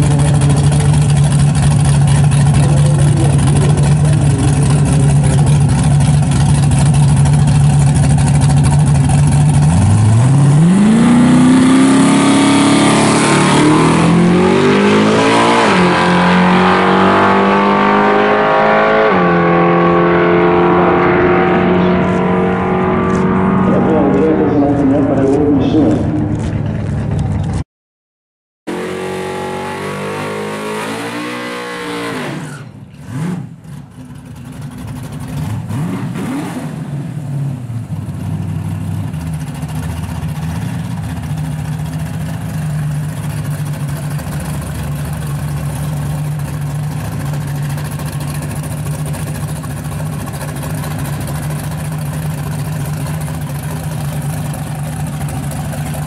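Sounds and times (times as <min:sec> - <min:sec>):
car engine revving and idling: 0:00.0 - 0:27.6, 0:28.7 - 0:56.0.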